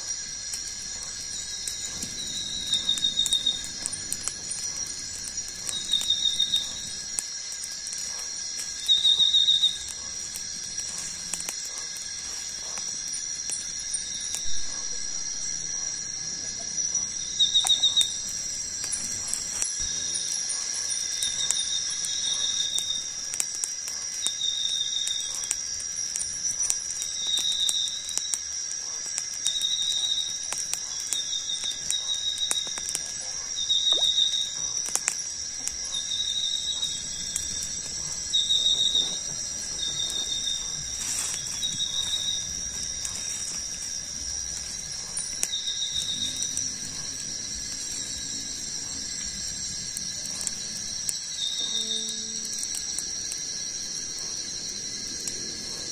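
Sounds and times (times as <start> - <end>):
insects droning: 0.0 - 55.9
wood fire crackling: 0.0 - 55.9.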